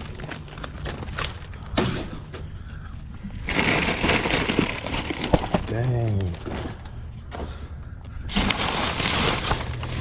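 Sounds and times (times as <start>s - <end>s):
plastic bags rustling: 0.0s - 7.6s, 8.2s - 10.0s.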